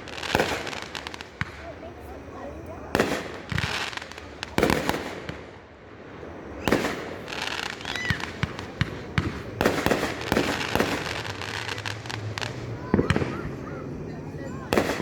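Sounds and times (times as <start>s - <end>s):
firework bangs: 0.0s - 15.0s
firework crackling pops: 0.0s - 15.0s.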